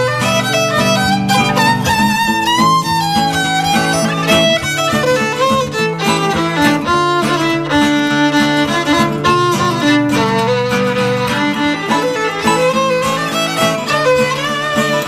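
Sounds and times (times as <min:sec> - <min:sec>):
fiddle playing quick runs: 0:00.0 - 0:15.0
strummed acoustic guitar: 0:00.0 - 0:15.0.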